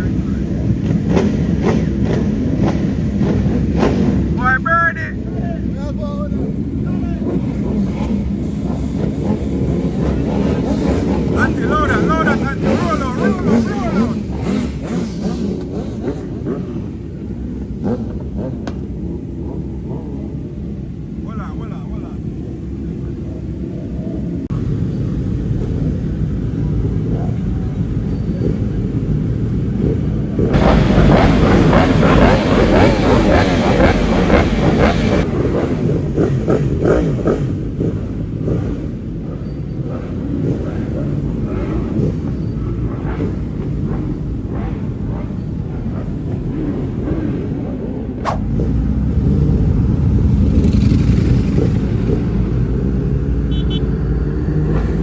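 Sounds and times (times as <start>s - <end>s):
motorcycle engines rumbling: 0.0s - 55.0s.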